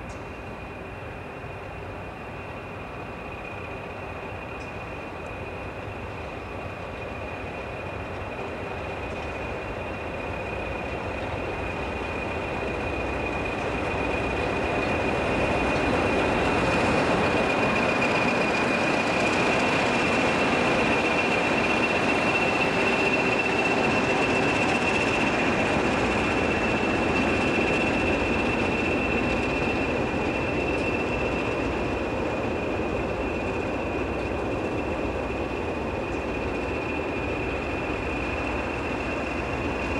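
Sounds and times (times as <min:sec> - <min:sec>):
diesel locomotives passing: 0:00.0 - 0:39.9.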